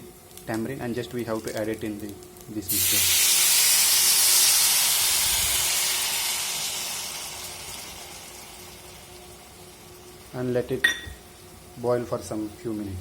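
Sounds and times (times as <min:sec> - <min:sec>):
liquid sizzling in hot oil: 0:00.0 - 0:13.0.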